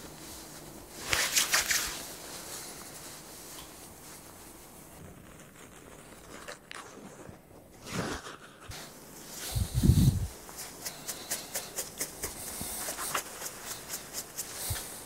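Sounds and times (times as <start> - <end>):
hands rustling through hair: 0.0 - 15.0.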